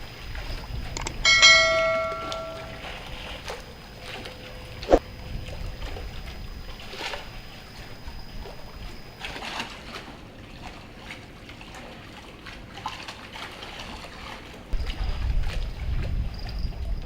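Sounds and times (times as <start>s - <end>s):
water trickling and splashing: 0.0s - 4.4s, 5.2s - 17.0s.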